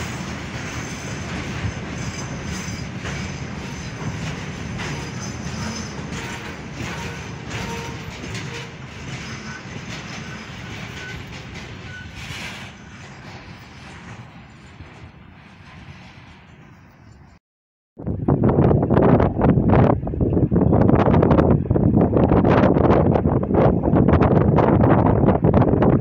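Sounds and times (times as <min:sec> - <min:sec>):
train wheel rumble and rail clatter: 0:00.0 - 0:17.4, 0:18.6 - 0:26.0.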